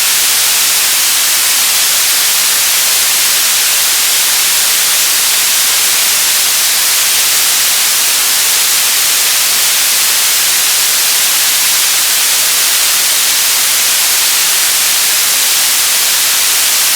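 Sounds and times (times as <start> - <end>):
television static hiss: 0.0 - 16.9.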